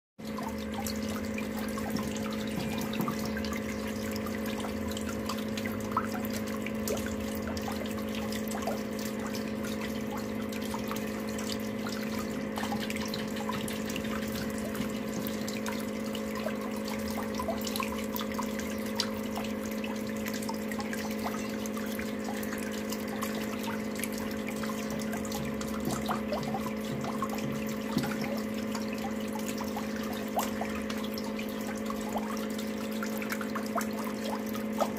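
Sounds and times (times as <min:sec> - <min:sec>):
water swirling and draining: 0:00.2 - 0:34.9
machine humming: 0:00.3 - 0:34.9
small splashes and clicks: 0:00.3 - 0:34.9.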